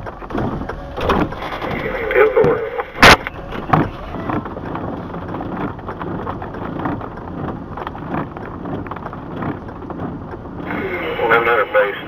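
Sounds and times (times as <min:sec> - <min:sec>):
rain on vehicle roof: 0:00.0 - 0:12.0.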